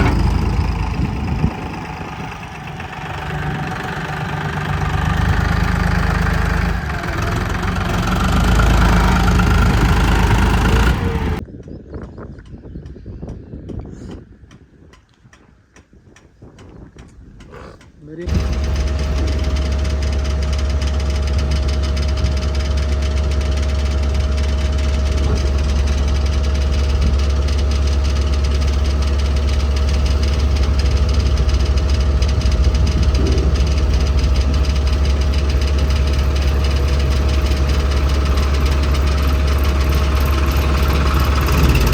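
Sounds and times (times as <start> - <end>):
diesel engine running: 0.0 - 11.4, 18.3 - 41.9.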